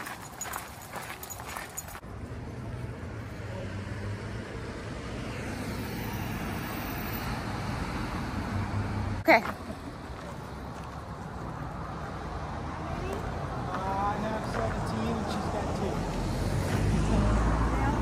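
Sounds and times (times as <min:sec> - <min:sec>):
traffic hum: 0:00.0 - 0:18.0.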